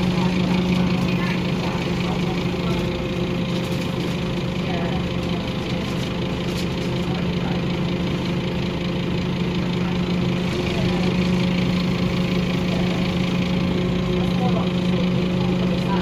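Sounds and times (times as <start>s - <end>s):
bus diesel engine hum: 0.0s - 16.0s.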